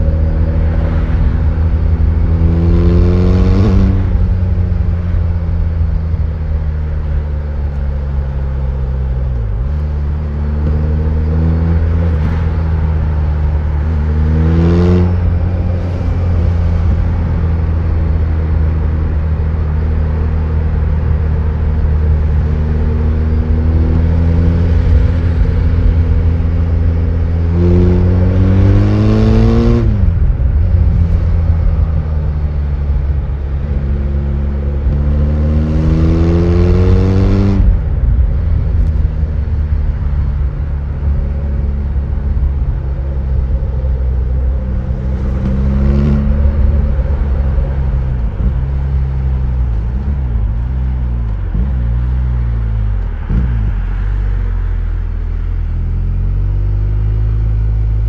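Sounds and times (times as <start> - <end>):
motorcycle engine revving: 0.0 - 7.1, 9.4 - 18.9, 21.0 - 52.4.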